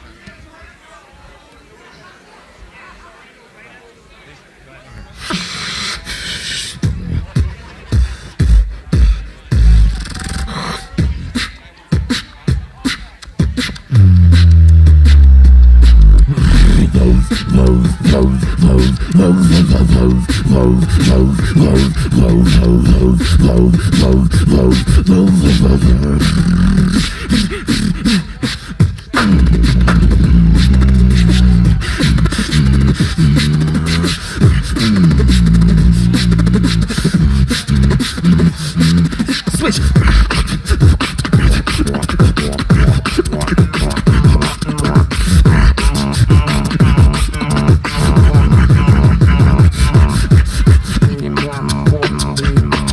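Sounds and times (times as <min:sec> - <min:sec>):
beatboxing through a pa: 0:05.1 - 0:52.9.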